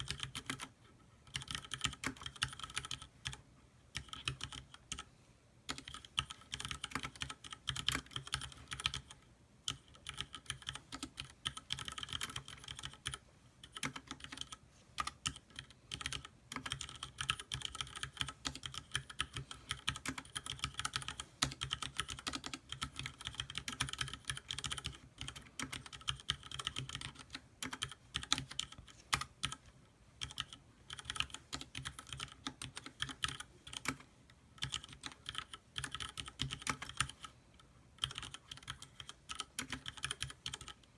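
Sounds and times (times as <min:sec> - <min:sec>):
mechanical keyboard typing: 0:00.0 - 0:05.1, 0:05.7 - 0:40.9.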